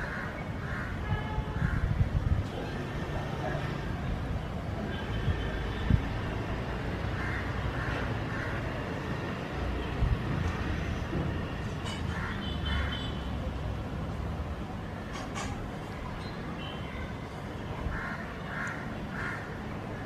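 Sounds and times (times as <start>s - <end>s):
low rumble of distant traffic: 0.0s - 20.0s.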